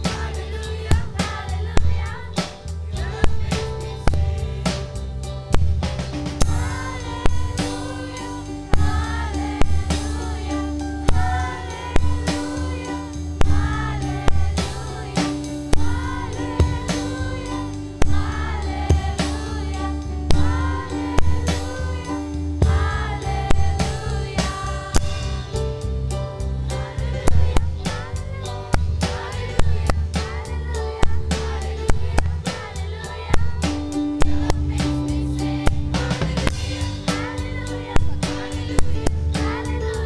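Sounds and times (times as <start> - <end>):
group singing upbeat song: 0.0 - 5.4, 6.1 - 40.0
amplified music with bass and drums: 0.0 - 40.0.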